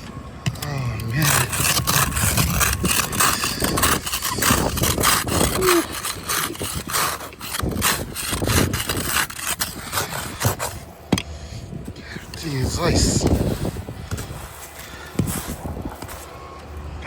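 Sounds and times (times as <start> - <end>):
ice being scraped: 0.5 - 10.9, 12.1 - 16.4.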